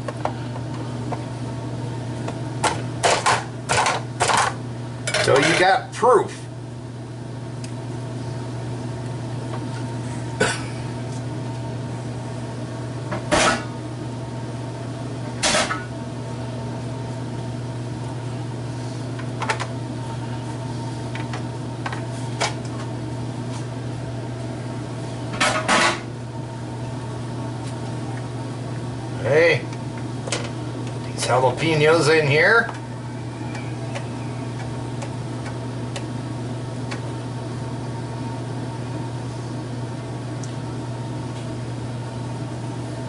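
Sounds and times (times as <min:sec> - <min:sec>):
kitchen appliance humming: 0:00.0 - 0:43.0.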